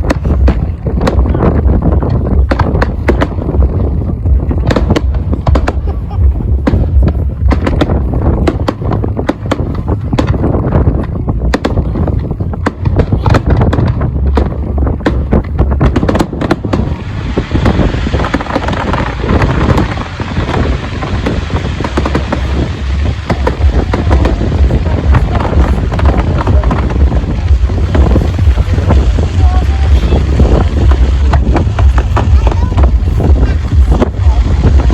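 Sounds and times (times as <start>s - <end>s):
fireworks bangs and crackles: 0.0s - 34.9s
wind buffeting microphone: 0.0s - 34.9s.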